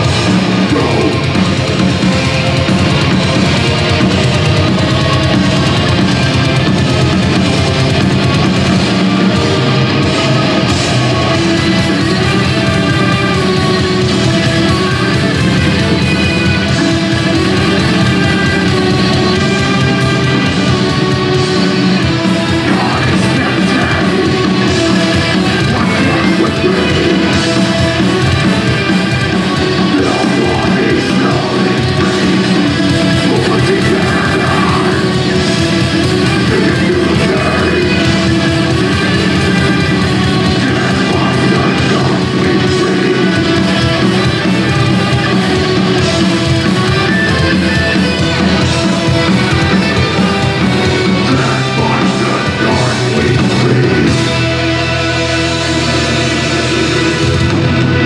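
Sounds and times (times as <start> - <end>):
person singing: 0.0 - 2.3, 8.8 - 58.0
heavy metal band playing: 0.0 - 58.0.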